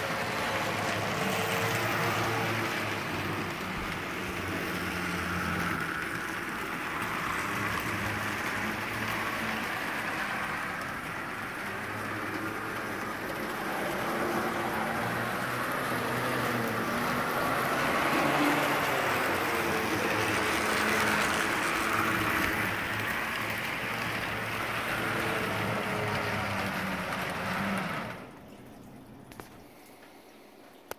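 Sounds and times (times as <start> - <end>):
model train wheels rattling on rails: 0.0 - 28.4.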